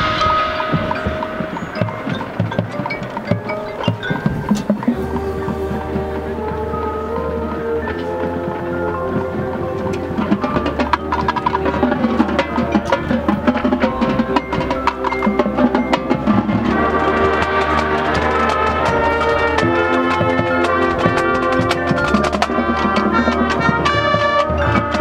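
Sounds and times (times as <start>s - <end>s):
drum and mallet percussion: 0.0s - 25.0s
wind and brass chords: 0.0s - 25.0s.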